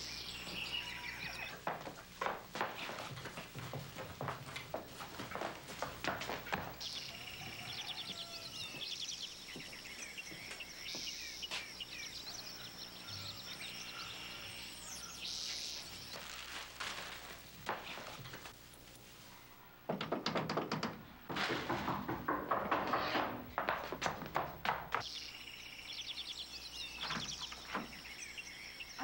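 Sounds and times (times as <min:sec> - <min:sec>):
small birds chirping: 0:00.0 - 0:18.6, 0:24.3 - 0:29.0.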